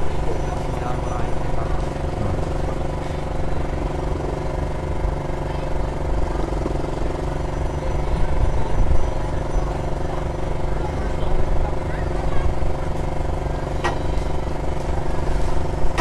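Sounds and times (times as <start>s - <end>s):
petrol generator running: 0.0s - 16.0s.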